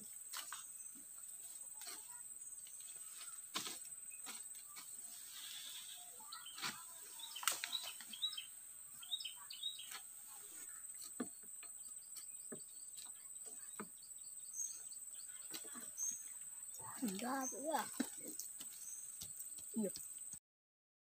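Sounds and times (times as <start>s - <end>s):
rustles: 0.0s - 20.4s
small birds chirping: 0.0s - 20.4s.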